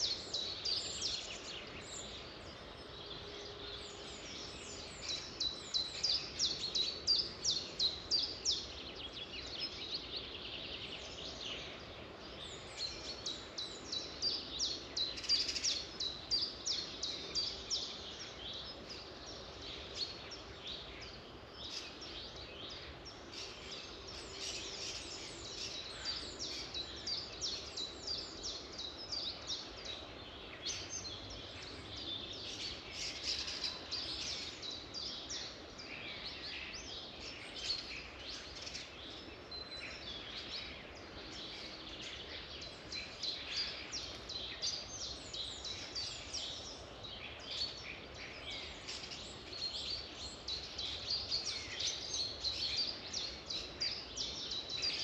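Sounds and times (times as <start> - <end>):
background hiss: 0.0 - 55.0
songbirds chirping: 0.0 - 55.0.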